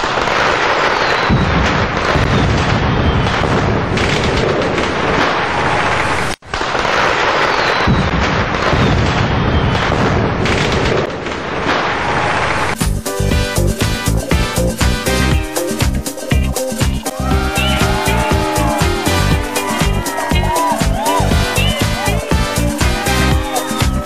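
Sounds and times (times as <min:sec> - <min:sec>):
fireworks bangs and crackles: 0:00.0 - 0:12.8, 0:17.2 - 0:24.0.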